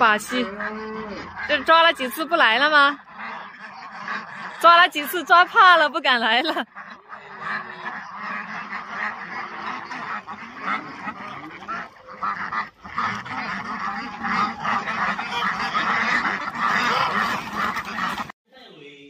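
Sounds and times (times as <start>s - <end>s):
ducks quacking: 0.0s - 18.4s.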